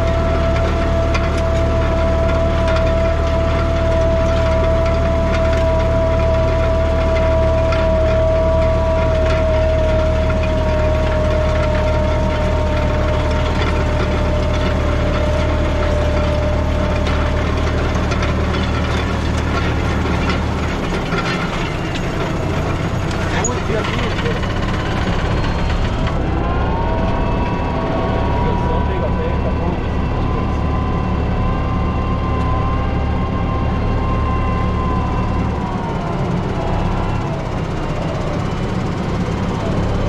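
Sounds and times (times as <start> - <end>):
high machine whine: 0.0 - 40.0
tractor engine drone: 0.0 - 40.0.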